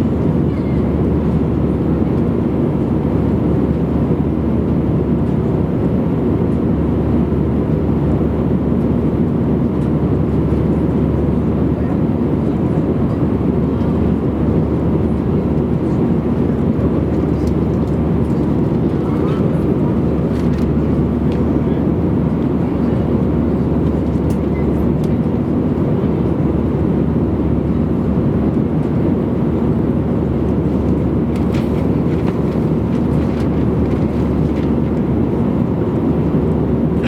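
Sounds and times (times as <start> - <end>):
airliner cabin engine rumble: 0.0 - 37.0.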